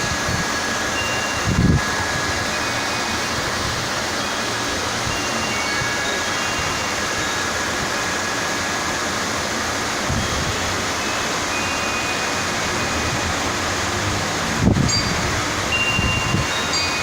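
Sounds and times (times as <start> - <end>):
heavy rain pouring: 0.0 - 17.0
wind chimes tinkling: 0.0 - 17.0.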